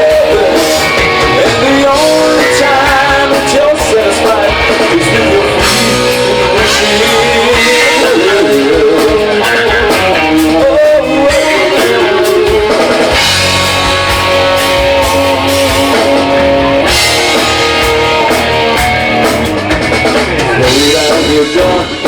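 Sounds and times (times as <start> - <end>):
rock band instrumental: 0.0 - 22.0.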